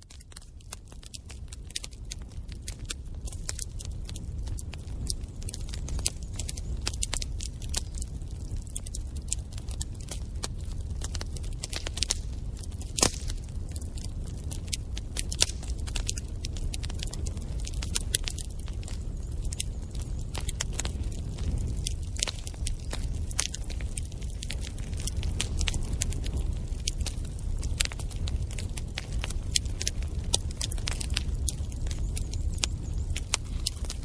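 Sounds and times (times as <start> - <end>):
low fire rumble: 0.0 - 34.0
wood fire crackling and popping: 0.0 - 34.0.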